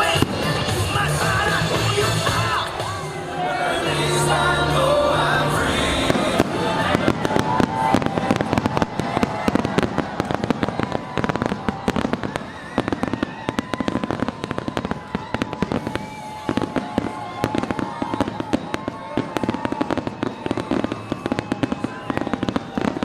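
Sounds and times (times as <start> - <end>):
fireworks popping and crackling: 0.0 - 3.2, 5.9 - 23.0.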